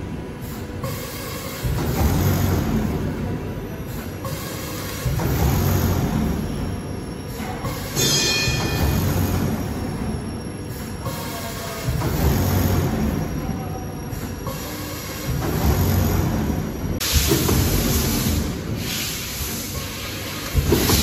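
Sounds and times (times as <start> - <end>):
packing machine running: 0.0 - 21.0.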